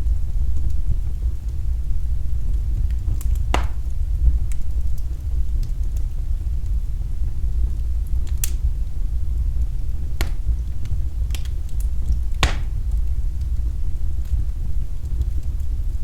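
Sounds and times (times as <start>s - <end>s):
fire popping: 0.0s - 16.0s
wood fire crackling: 0.0s - 16.0s.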